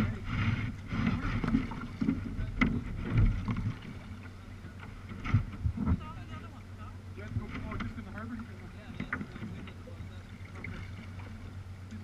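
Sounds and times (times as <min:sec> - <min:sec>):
paddle splashes: 0:00.0 - 0:12.0
water sloshing against hull: 0:00.0 - 0:12.0.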